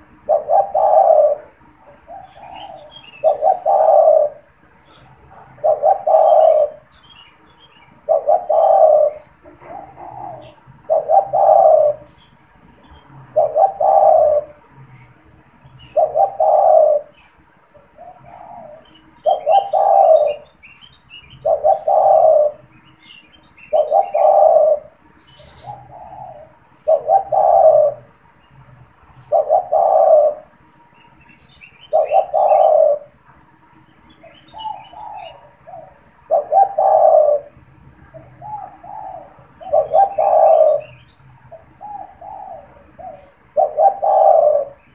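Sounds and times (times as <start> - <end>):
dove cooing: 0.0 - 33.4, 34.0 - 44.9
small birds chirping faintly: 0.0 - 44.9.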